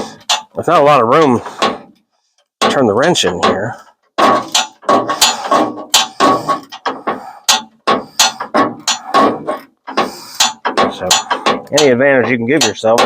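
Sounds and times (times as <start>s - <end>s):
wrench clanking against metal: 0.0s - 1.9s, 2.6s - 13.0s.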